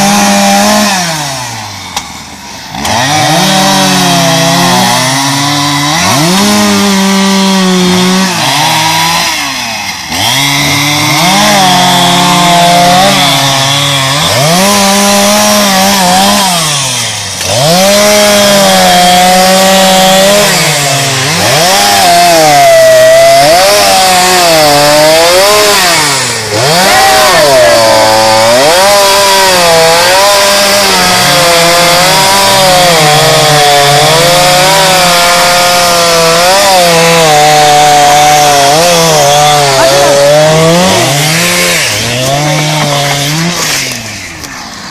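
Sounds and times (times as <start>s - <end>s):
chainsaw revving and cutting: 0.0s - 44.9s.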